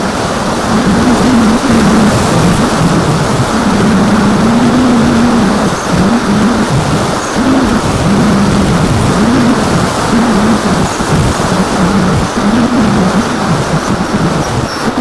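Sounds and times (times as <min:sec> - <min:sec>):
electric motor and propeller whine: 0:00.0 - 0:15.0
wind rush on microphone: 0:00.0 - 0:15.0.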